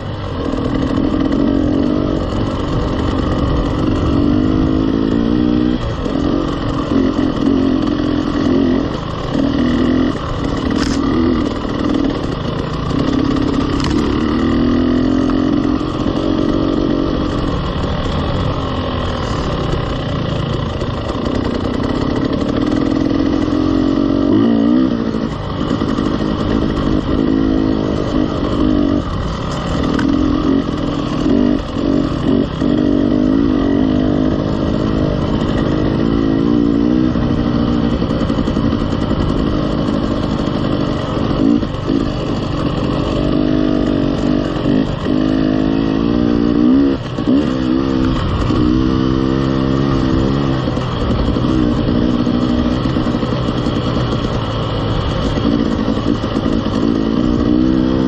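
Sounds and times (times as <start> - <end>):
dirt bike engine revving: 0.0 - 58.0
wind and tyre noise: 0.0 - 58.0.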